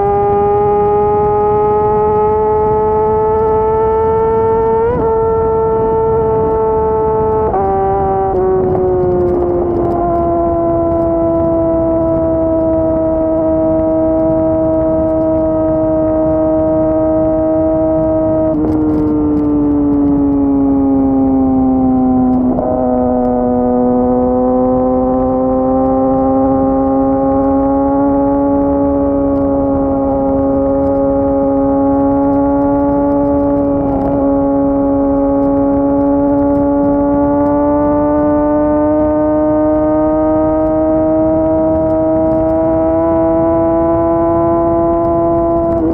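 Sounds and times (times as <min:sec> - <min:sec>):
motorcycle engine at high revs: 0:00.0 - 0:45.9.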